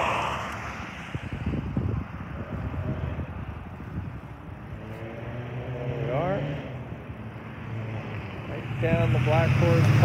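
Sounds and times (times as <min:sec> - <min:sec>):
highway traffic rushing: 0:00.0 - 0:10.0.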